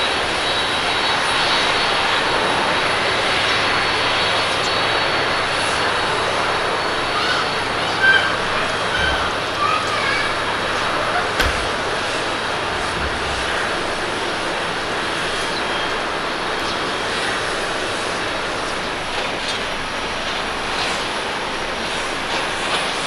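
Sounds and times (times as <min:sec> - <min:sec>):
hiss of spray and rain: 0:00.0 - 0:23.0
jet engines running: 0:00.0 - 0:23.0.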